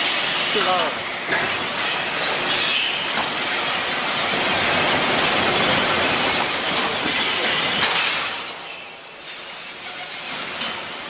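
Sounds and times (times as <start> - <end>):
factory machinery clatter: 0.0 - 11.0.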